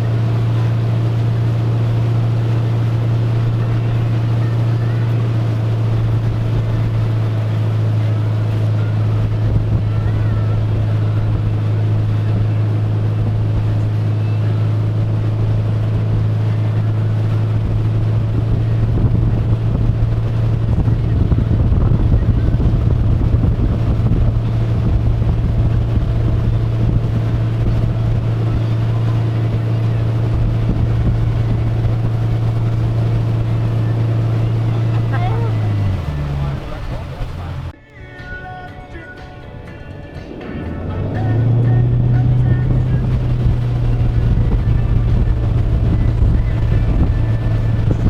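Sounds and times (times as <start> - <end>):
motorboat engine droning: 0.0 - 37.8, 40.6 - 48.0
wind buffeting microphone: 0.0 - 37.8, 40.8 - 48.0.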